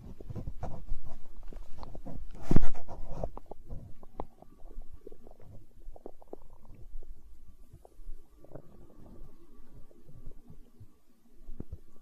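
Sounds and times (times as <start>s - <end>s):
stomach gurgling and growling: 0.0s - 12.0s.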